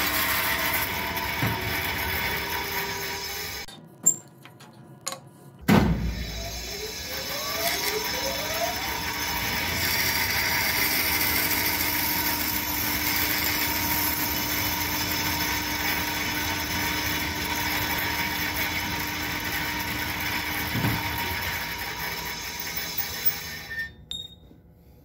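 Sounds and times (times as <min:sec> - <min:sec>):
band saw cutting wood: 0:00.0 - 0:03.7, 0:06.1 - 0:23.9.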